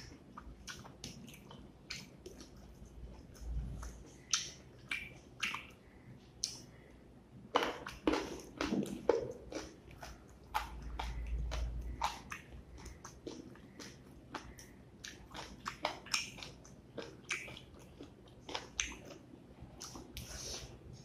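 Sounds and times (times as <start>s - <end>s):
wet chewing clicks: 0.0s - 5.8s, 7.6s - 20.4s.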